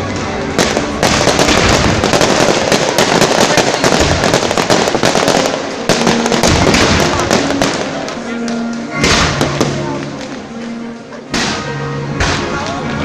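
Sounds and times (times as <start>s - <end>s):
fireworks cracking and banging: 0.0s - 10.6s, 11.3s - 13.0s.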